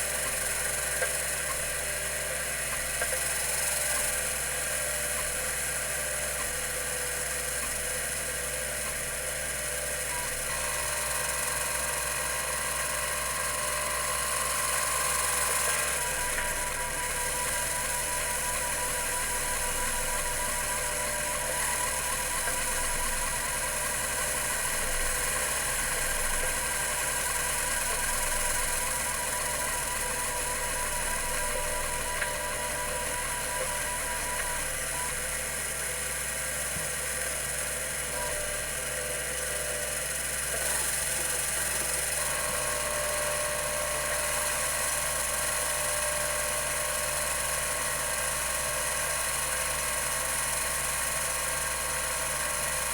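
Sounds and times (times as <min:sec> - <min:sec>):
hard drive motor whine and hiss: 0:00.0 - 0:52.9.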